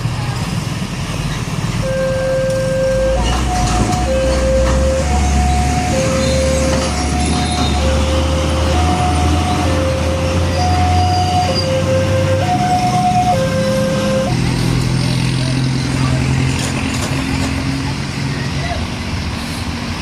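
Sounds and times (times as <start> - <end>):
heavy vehicle engine running: 0.0 - 20.0.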